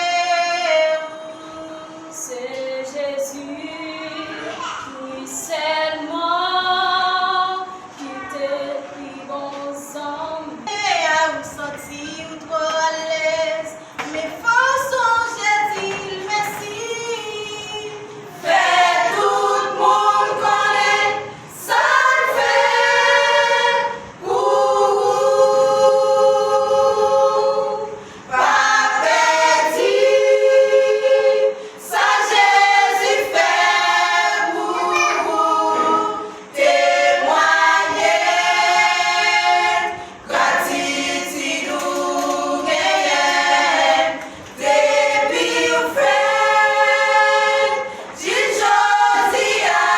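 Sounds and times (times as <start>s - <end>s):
vocal group singing a cappella: 0.0s - 49.9s.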